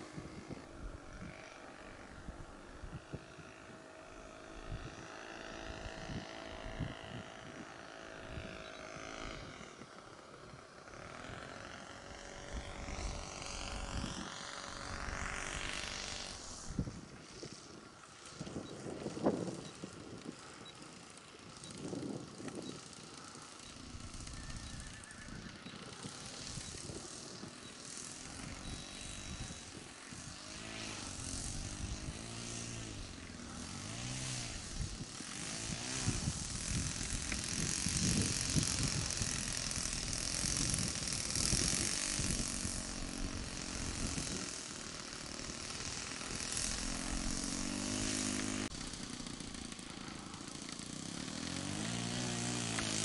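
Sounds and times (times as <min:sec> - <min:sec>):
model plane engine running: 0:00.0 - 0:53.0.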